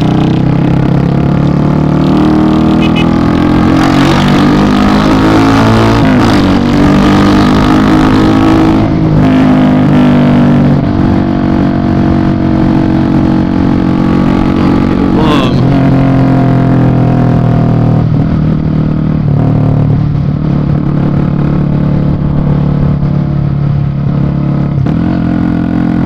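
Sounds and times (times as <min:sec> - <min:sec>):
motorcycle engine running: 0:00.0 - 0:05.0, 0:05.9 - 0:26.0.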